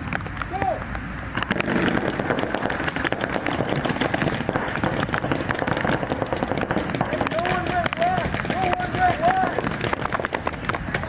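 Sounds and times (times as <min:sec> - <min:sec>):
steady background noise: 0:00.0 - 0:11.0
paintball markers firing: 0:01.4 - 0:11.0.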